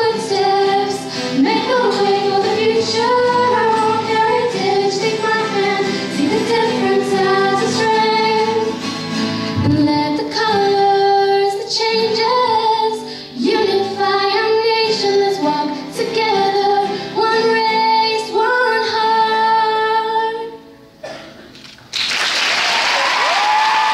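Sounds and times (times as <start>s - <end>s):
strummed acoustic guitars: 0.0s - 19.2s
girls singing a slow pop song: 0.0s - 21.2s.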